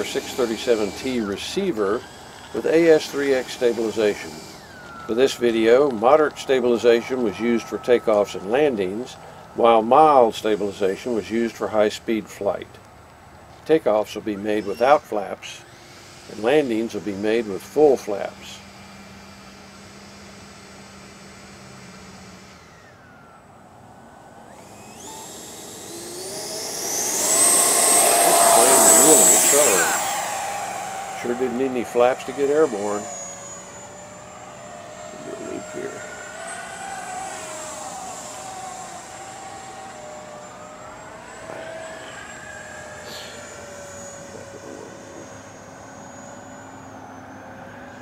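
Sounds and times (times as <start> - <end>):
electric ducted fan whining: 0.0 - 48.0.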